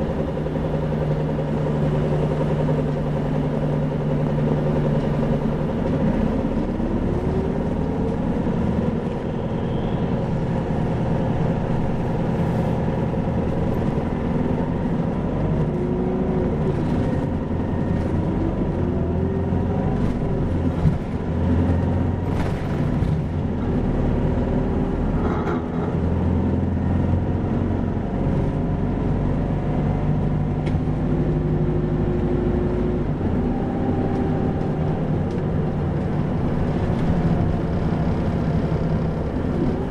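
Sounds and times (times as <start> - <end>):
bus diesel engine: 0.0 - 39.9
road noise: 0.0 - 39.9.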